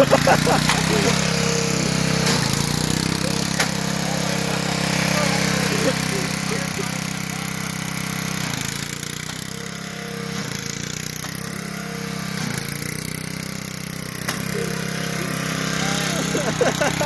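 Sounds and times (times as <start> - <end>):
riding mower engine running: 0.0 - 17.0.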